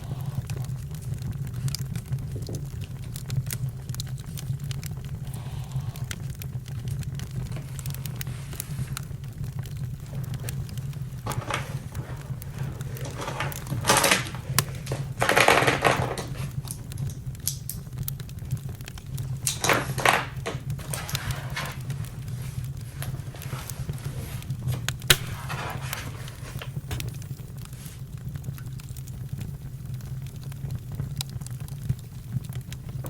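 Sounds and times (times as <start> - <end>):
campfire crackling: 0.0 - 33.0.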